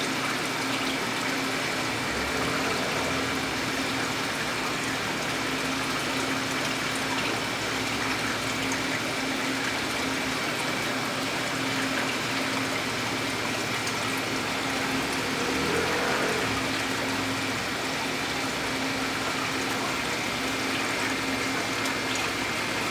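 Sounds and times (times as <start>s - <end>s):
aquarium filter water rushing: 0.0s - 22.9s
low pump hum: 0.0s - 22.9s.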